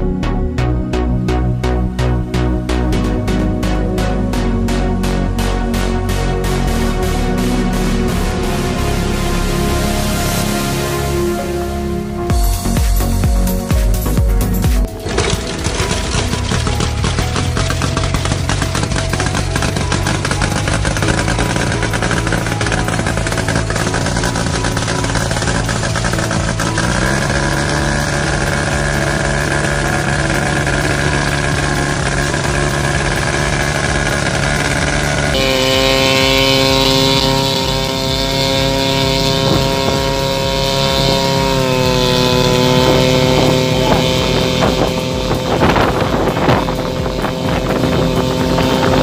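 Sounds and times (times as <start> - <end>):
small aircraft piston engine: 7.8 - 49.0.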